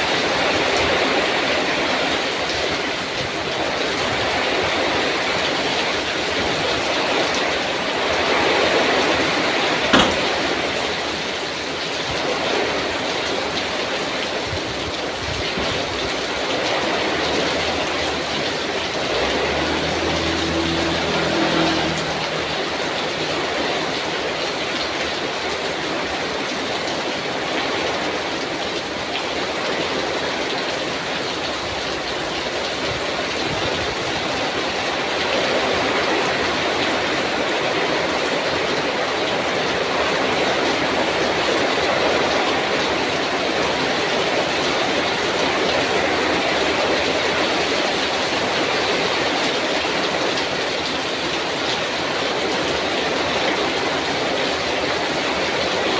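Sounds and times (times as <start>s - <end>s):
heavy rain in strong wind: 0.0s - 55.9s.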